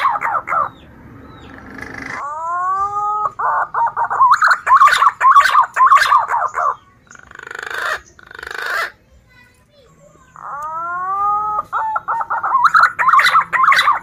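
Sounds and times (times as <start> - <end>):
green pigeon whistling song: 0.0 - 8.9, 10.4 - 14.0
raspy buzzing bird calls: 0.0 - 9.1, 10.2 - 14.0.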